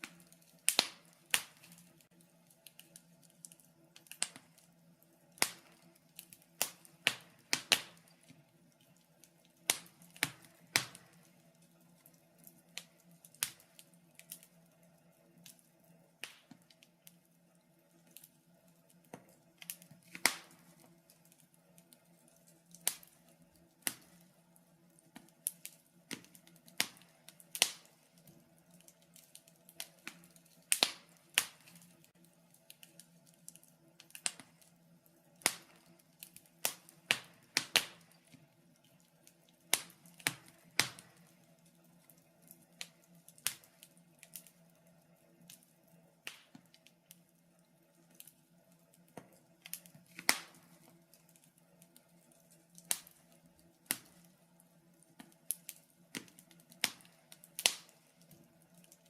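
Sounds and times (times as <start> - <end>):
faint steady low hum: 0.0 - 59.0
wood fire crackling: 0.0 - 59.0.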